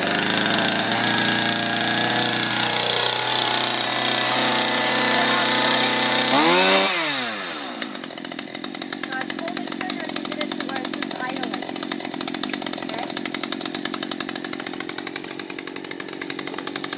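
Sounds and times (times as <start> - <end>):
chainsaw running and revving: 0.0 - 16.9.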